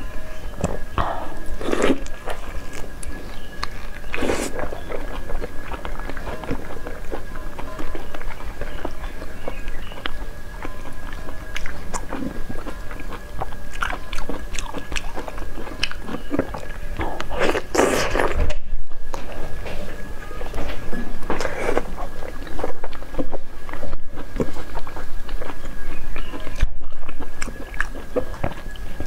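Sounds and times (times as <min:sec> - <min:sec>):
wet chewing: 0:00.5 - 0:29.0.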